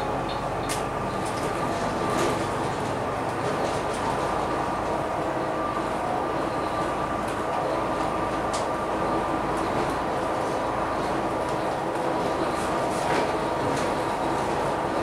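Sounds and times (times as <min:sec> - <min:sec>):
bus diesel engine whine: 0:00.0 - 0:15.0
road noise: 0:00.0 - 0:15.0.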